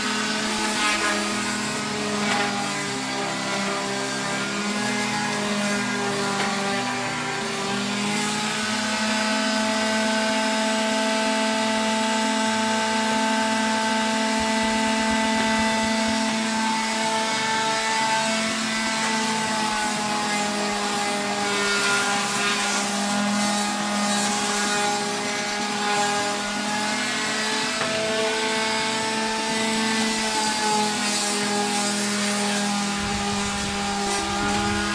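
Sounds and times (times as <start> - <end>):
orbital sander on wood: 0.0 - 34.9.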